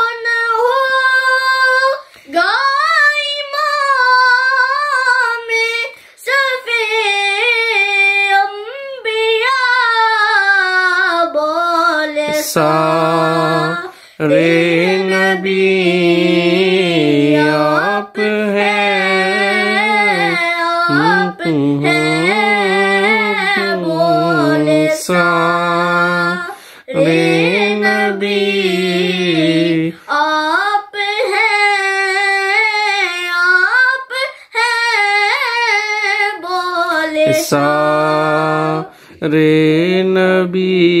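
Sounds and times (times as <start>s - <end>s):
boy singing unaccompanied: 0.0s - 41.0s.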